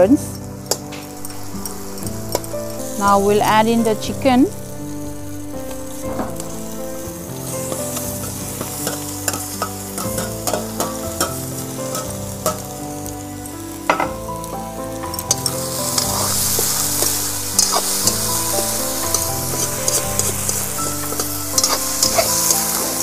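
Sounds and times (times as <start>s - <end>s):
chicken sizzling in hot oil: 0.0s - 23.0s.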